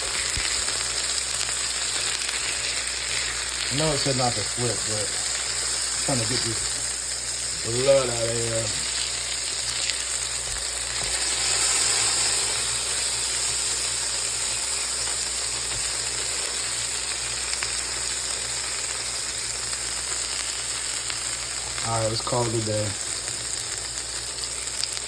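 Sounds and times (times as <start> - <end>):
burger patties sizzling in a pan: 0.0 - 25.0.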